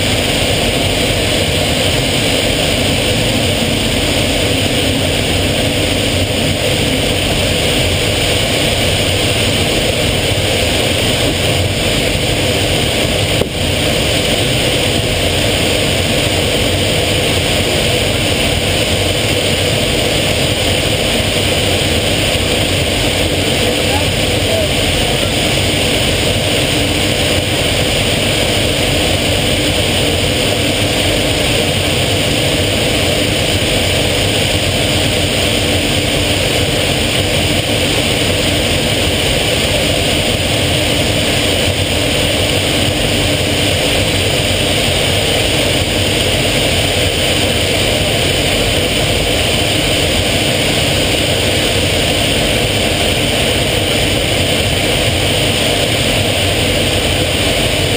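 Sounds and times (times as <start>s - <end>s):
aircraft engine in cockpit: 0.0s - 57.9s
rushing air: 0.0s - 57.9s.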